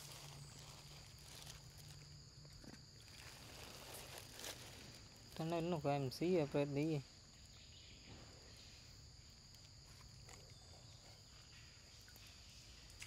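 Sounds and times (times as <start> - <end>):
crickets droning: 0.0 - 13.0.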